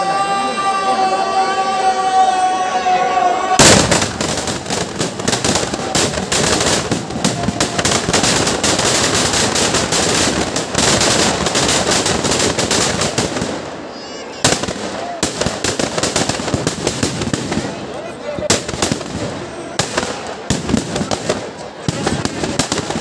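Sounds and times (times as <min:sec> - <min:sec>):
firecrackers crackling and banging: 0:03.6 - 0:23.0.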